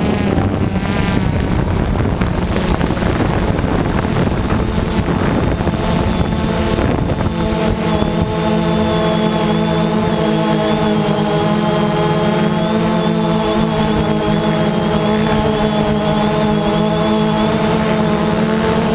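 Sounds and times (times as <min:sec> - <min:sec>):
motocross bike engines: 0:00.0 - 0:18.9
steady pitched drone: 0:00.0 - 0:18.9
wind buffeting microphone: 0:00.0 - 0:18.9.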